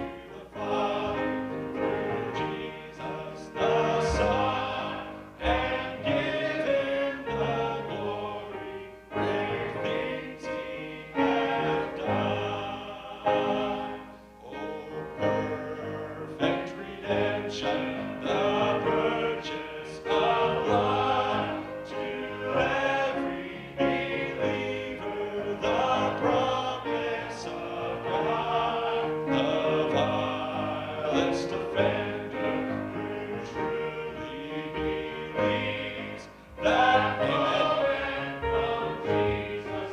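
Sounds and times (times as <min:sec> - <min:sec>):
instrumental accompaniment: 0:00.0 - 0:39.9
vocal group singing in harmony: 0:00.0 - 0:39.9.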